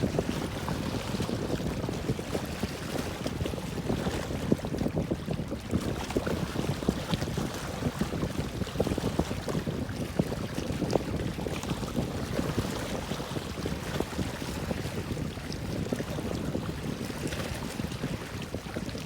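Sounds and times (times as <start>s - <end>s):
water lapping near boats: 0.0s - 19.0s
wind rumbling on microphone: 0.0s - 19.0s.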